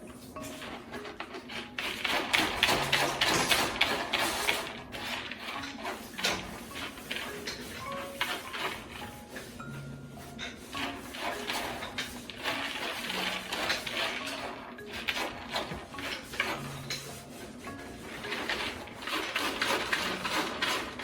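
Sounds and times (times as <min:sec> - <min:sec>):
rapid clicks and rustles: 0:00.0 - 0:09.6, 0:10.4 - 0:21.0.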